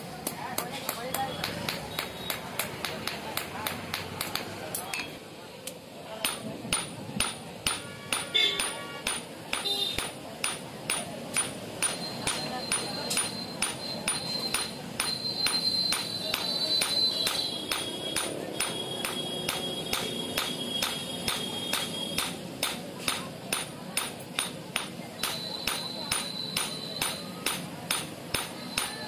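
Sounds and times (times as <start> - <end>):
hammer striking metal on anvil: 0.2 - 5.1, 6.2 - 29.0.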